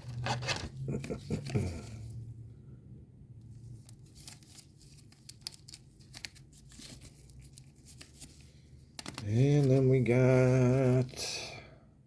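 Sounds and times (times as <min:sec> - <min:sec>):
trading cards rustling and clicking: 0:00.0 - 0:02.1, 0:03.7 - 0:11.4.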